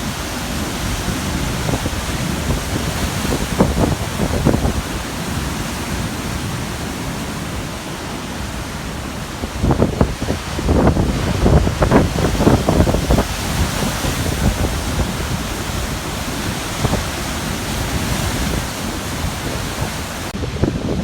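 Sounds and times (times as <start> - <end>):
ocean waves crashing on rocks: 0.0 - 21.0
wind buffeting microphone: 0.0 - 21.0.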